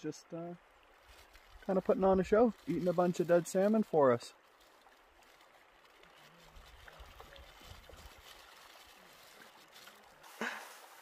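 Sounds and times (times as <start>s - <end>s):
river trickling over rocks: 0.0s - 11.0s.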